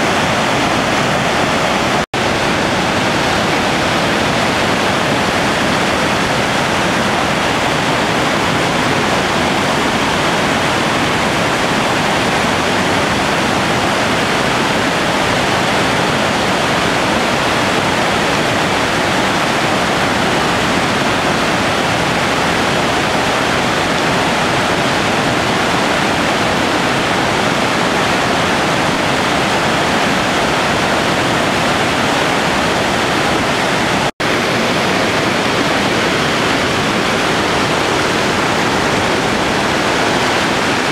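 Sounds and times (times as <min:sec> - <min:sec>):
whitewater rapids rushing: 0:00.0 - 0:40.9.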